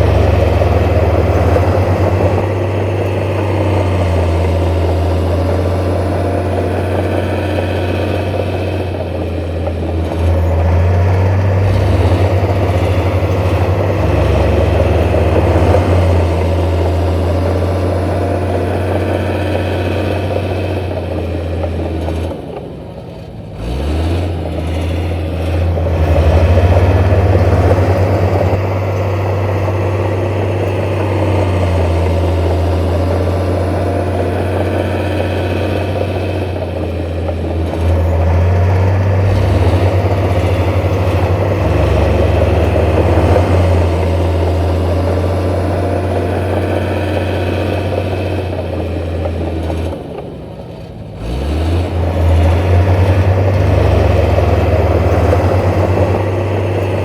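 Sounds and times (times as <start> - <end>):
diesel earthmoving machine engine: 0.0 - 57.0.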